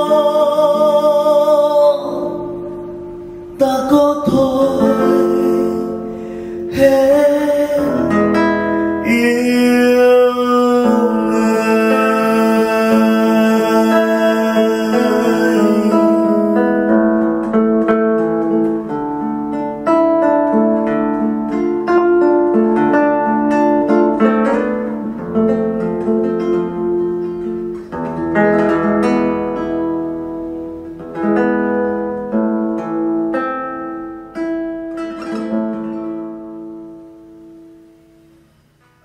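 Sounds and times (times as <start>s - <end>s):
acoustic guitar ballad: 0.0s - 39.0s.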